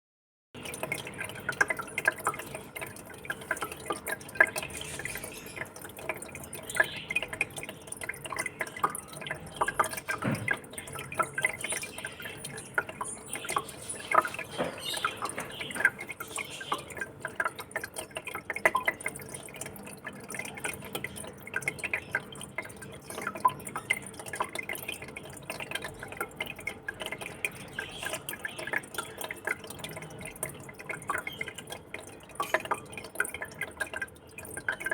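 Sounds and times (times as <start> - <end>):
water dripping and splashing: 0.6 - 34.9.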